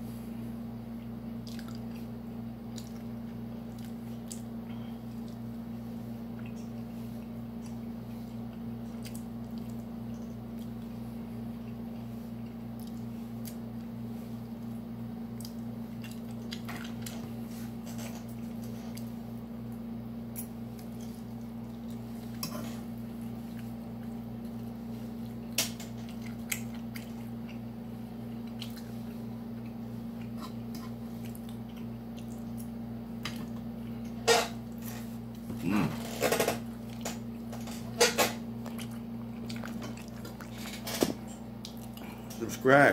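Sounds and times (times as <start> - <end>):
chewing: 1.0 - 14.7, 15.3 - 19.3, 20.3 - 42.4.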